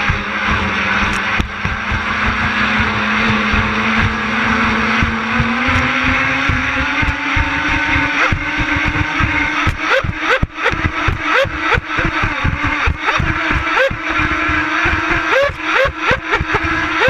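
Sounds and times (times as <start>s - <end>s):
electric boat motors whining: 0.0s - 17.0s
low thumps: 1.0s - 16.8s.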